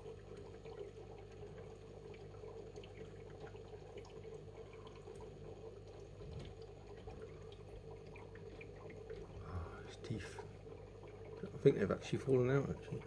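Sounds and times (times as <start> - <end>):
steady low hum: 0.0 - 13.0
water trickling and dripping: 0.0 - 13.0.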